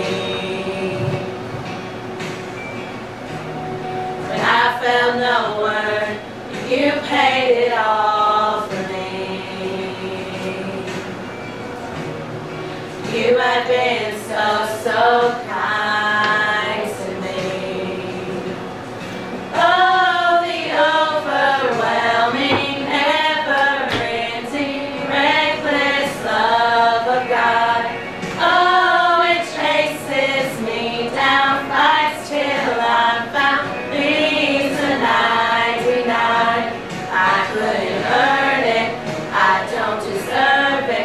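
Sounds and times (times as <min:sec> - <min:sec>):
women singing together: 0:00.0 - 0:02.3, 0:04.2 - 0:11.3, 0:12.8 - 0:41.0.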